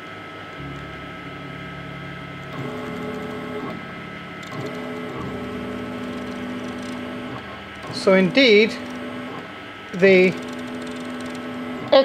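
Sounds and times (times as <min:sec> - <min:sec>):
servo motor whine: 0:00.6 - 0:12.0.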